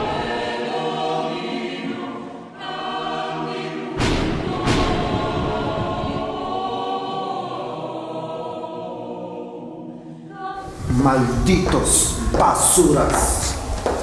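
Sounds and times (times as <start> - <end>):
choir holding a chord: 0.0 - 14.0.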